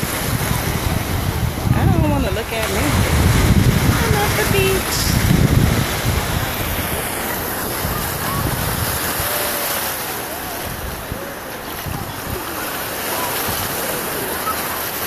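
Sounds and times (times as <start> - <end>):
wind gusting on microphone: 0.0 - 14.9
waves washing ashore: 0.0 - 15.0.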